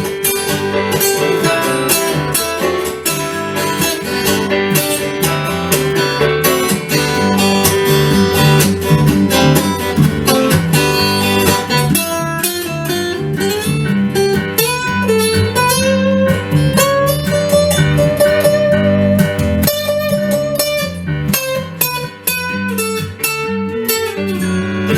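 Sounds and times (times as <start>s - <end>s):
acoustic guitar blues: 0.0s - 24.9s.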